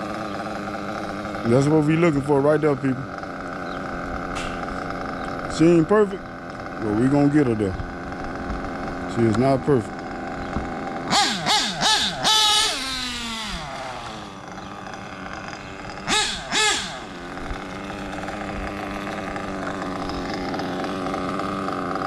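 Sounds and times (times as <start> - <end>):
model engine revving and idling: 0.0 - 22.0.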